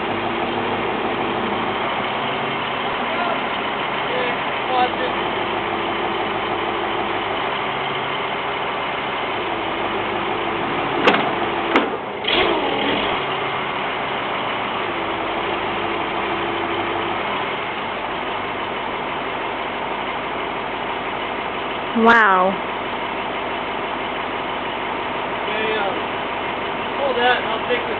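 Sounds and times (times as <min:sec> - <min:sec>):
vehicle engine idling: 0:00.0 - 0:27.9.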